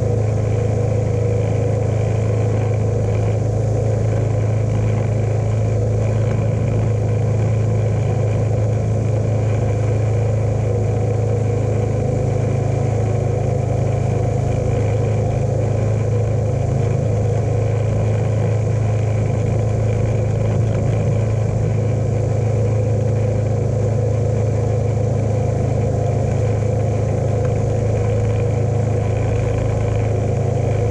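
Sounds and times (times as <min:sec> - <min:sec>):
lawn tractor engine droning: 0:00.0 - 0:30.9.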